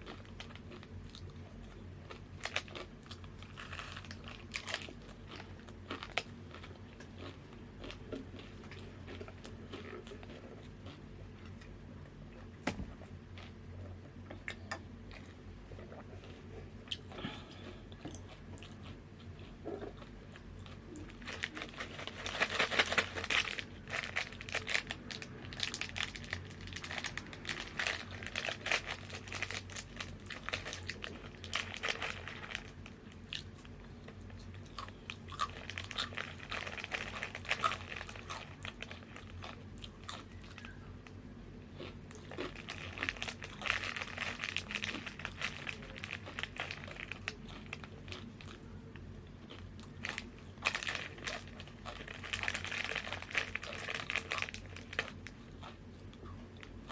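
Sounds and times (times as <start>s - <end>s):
chips being crunched and chewed: 0.0s - 11.7s, 15.1s - 41.2s, 41.8s - 56.9s.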